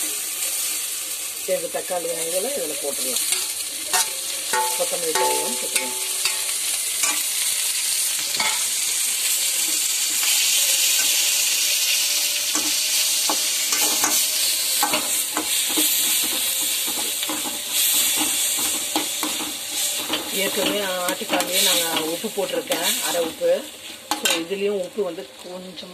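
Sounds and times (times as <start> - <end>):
vegetables sizzling in a pan: 0.0 - 25.9.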